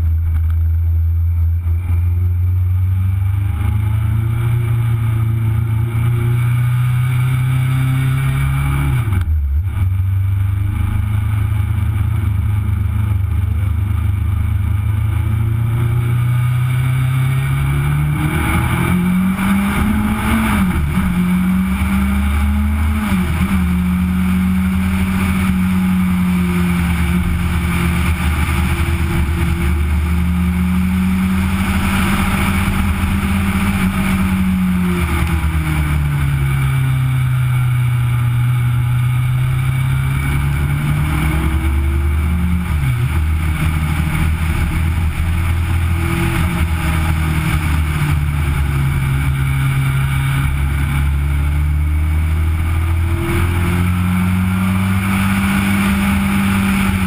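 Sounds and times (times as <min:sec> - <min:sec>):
motorcycle engine at high revs: 0:01.5 - 0:57.0.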